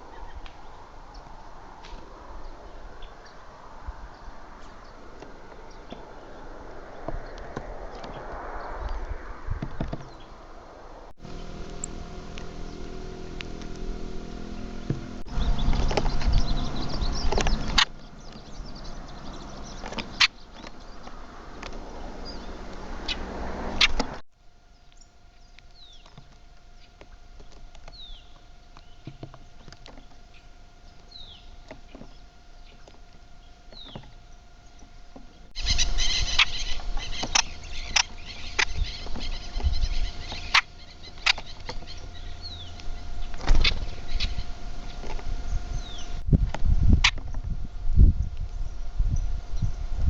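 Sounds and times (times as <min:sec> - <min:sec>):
birds chirping: 0:00.0 - 0:46.4
steady hum: 0:00.0 - 0:50.0.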